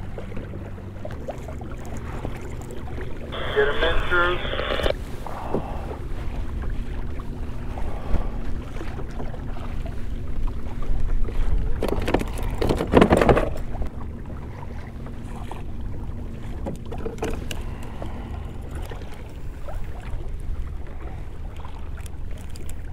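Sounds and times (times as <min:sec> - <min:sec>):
water lapping against kayak: 0:00.0 - 0:22.9.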